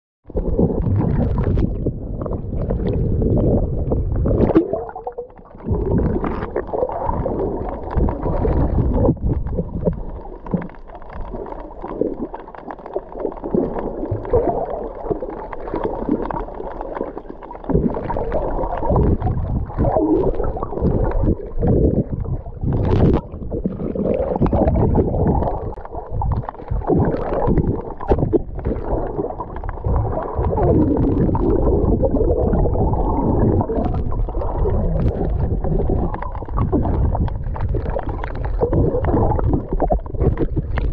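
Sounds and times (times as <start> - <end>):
underwater water rushing: 0.3 - 40.9.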